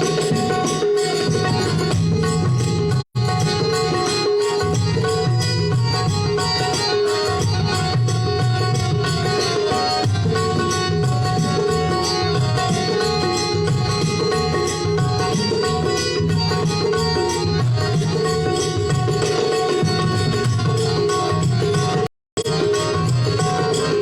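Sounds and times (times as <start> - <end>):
harmonium held notes: 0.0 - 24.0
repeating drum pattern: 0.0 - 24.0.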